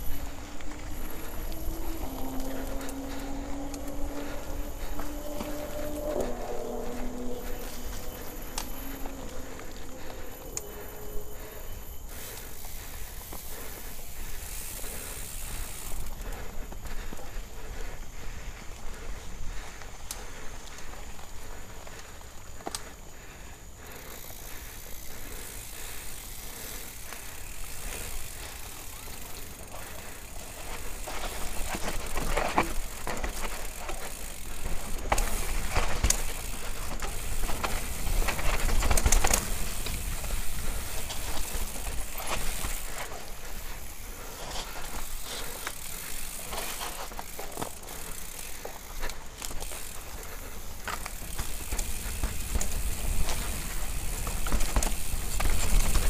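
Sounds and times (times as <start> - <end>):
bike rattling over bumps: 0.0 - 56.0
bike tyre noise: 0.0 - 56.0.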